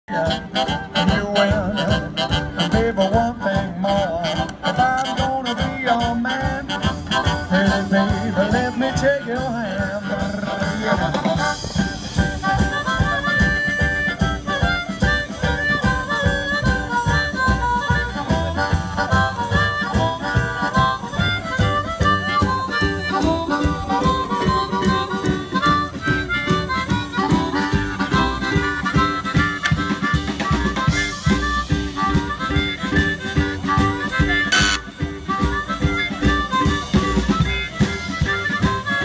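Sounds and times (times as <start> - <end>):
harmonica melody: 0.1 - 39.0
steady drum beat: 0.1 - 39.0
upright bass: 0.1 - 39.0.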